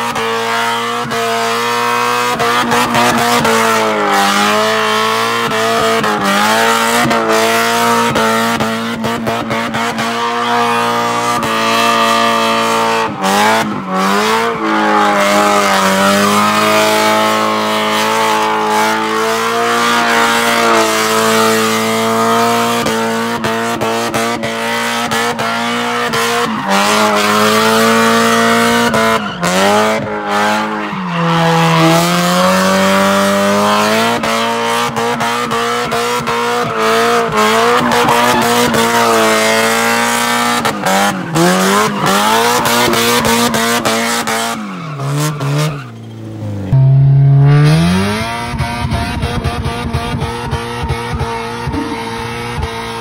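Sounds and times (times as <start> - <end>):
car engine at high revs: 0.0 - 53.0.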